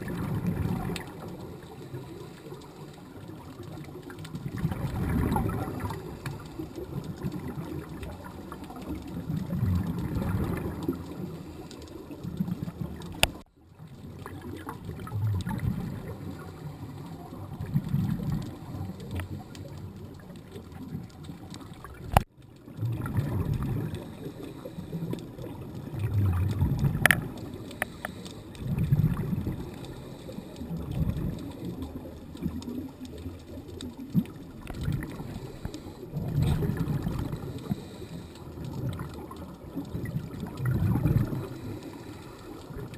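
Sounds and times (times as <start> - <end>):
underwater rumble and gurgle: 0.0 - 42.9.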